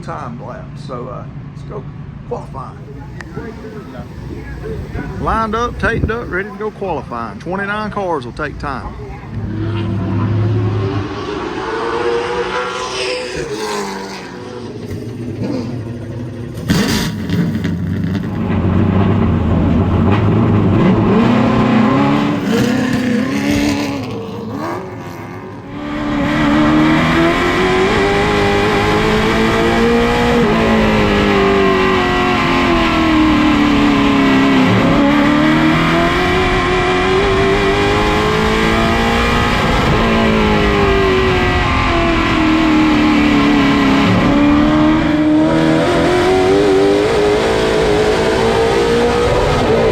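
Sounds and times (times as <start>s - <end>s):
race car engine: 0.0s - 49.9s.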